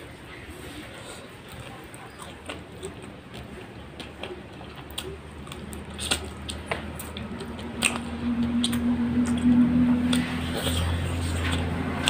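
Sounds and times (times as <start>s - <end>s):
low steady hum: 0.0s - 12.0s
wet chewing: 1.0s - 12.0s.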